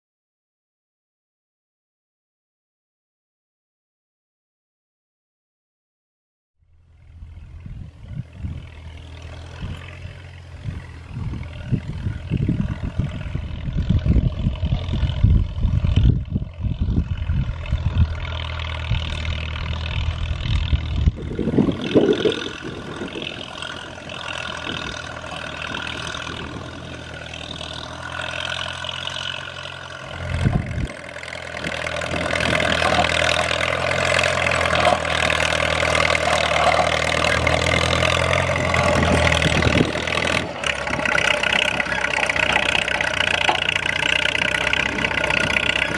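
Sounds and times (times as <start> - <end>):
tractor diesel engine running: 6.7 - 45.9.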